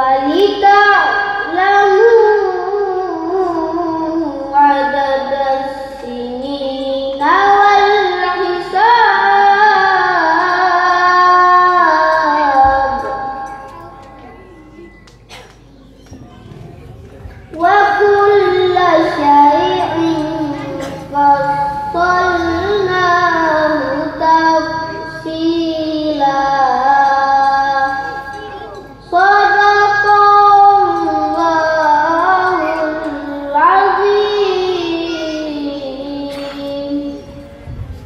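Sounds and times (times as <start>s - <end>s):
child reciting melodically: 0.0s - 38.0s.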